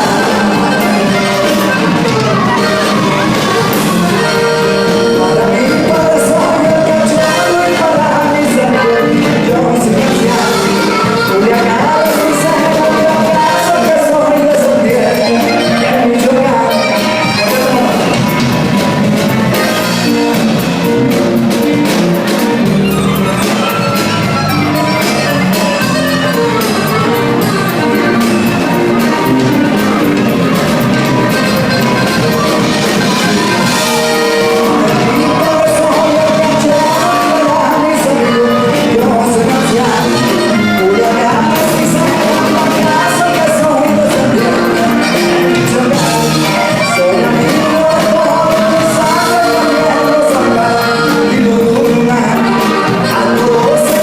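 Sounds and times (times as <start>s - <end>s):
live band music: 0.0s - 54.0s
man singing long notes: 0.0s - 54.0s.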